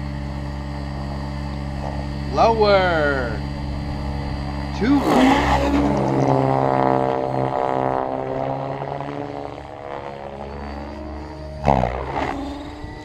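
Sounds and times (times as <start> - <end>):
rc helicopter rotors buzzing: 0.0 - 13.0.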